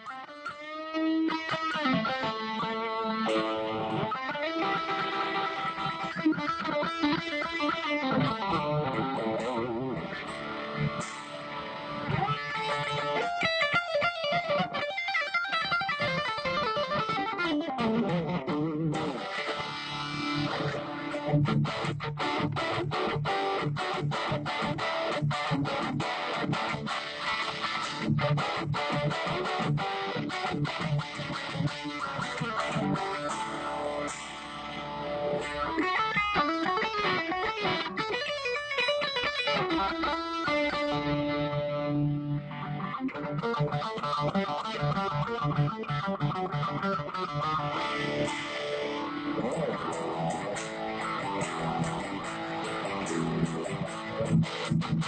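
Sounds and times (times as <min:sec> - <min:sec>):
amplified electric guitar playing: 0:00.0 - 0:55.0.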